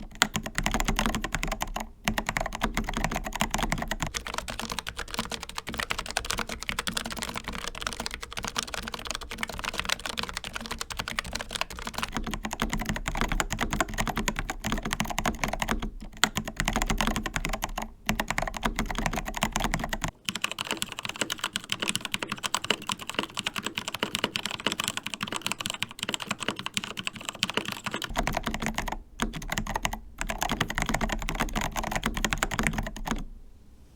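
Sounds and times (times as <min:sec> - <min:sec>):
mechanical keyboard typing: 0:00.0 - 0:33.3.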